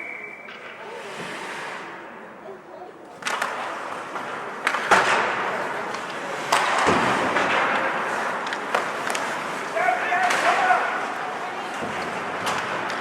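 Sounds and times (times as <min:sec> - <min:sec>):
hockey sticks and puck clacking: 0:00.0 - 0:01.4, 0:03.1 - 0:13.0
skates scraping over ice: 0:00.5 - 0:02.4, 0:03.1 - 0:13.0.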